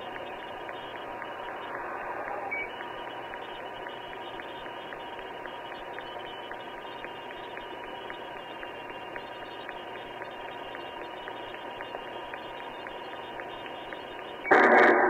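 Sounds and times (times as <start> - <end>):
light ticking: 0.0 - 14.5
faint constant tone: 0.0 - 15.0
steady hiss and hum: 0.0 - 15.0.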